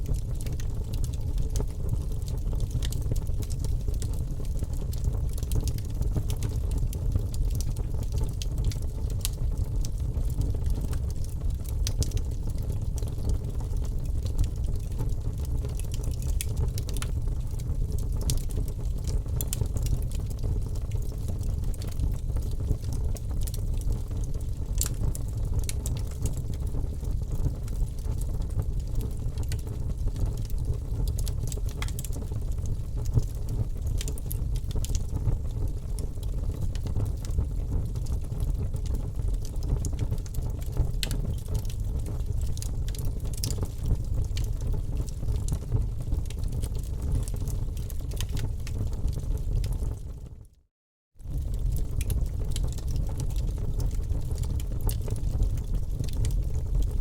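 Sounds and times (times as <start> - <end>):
fire crackling and popping: 0.0 - 50.2, 51.2 - 57.0
low rumble of fire: 0.0 - 57.0.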